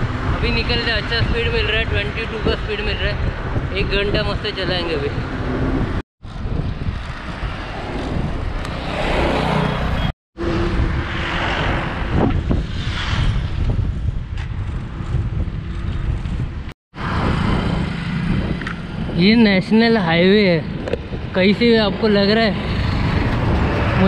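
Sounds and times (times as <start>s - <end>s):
passing highway traffic: 0.0s - 24.0s
wind rushing over microphone: 0.0s - 24.0s.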